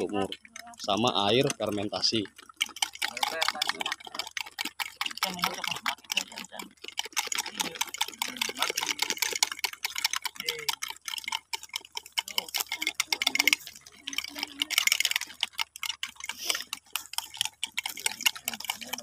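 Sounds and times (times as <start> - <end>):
spoons tapping plastic cups: 0.0 - 19.0.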